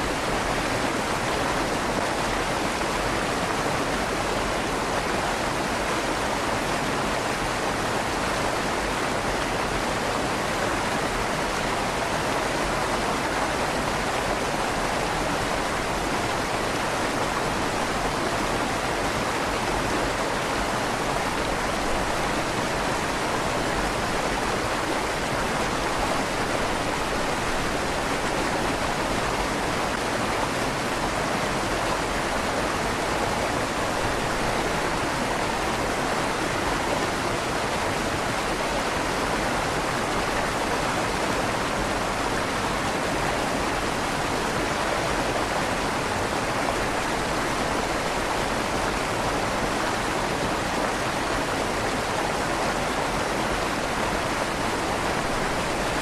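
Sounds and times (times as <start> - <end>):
river water flowing in tunnel: 0.0 - 56.0.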